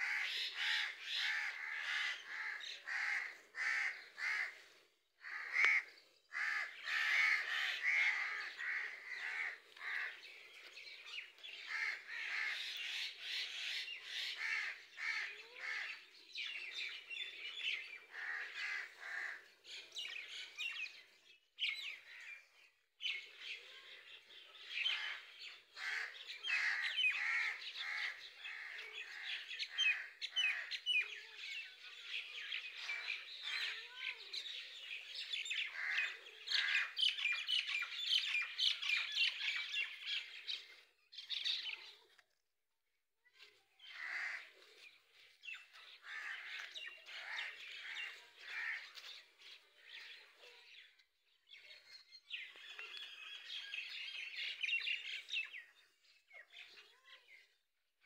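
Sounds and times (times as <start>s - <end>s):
small birds chirping: 0.0s - 42.3s, 43.3s - 57.8s.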